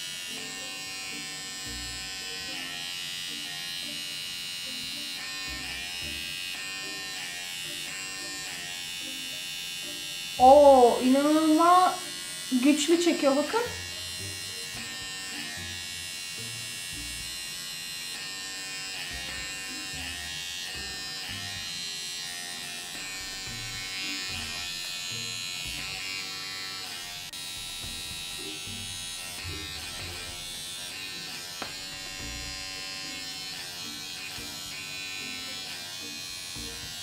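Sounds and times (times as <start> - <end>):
small motor whine: 0.0 - 37.0.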